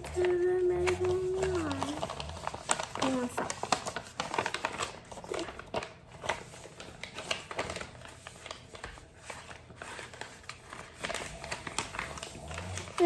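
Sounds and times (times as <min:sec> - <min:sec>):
paper being folded: 0:00.0 - 0:13.0.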